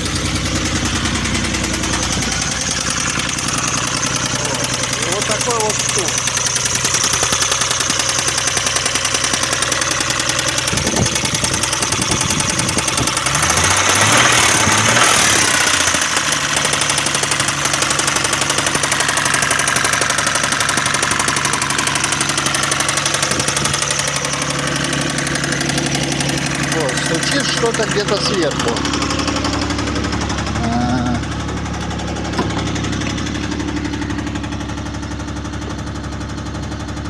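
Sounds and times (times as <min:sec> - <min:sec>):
engine running with knocking: 0:00.0 - 0:37.0.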